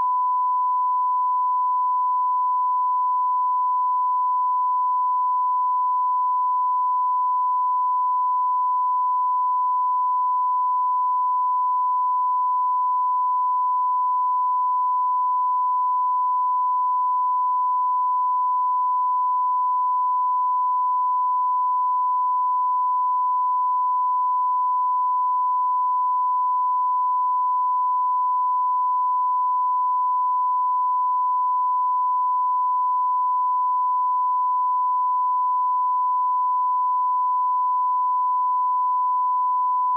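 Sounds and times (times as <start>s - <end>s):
steady sine-wave test tone: 0.0s - 39.9s.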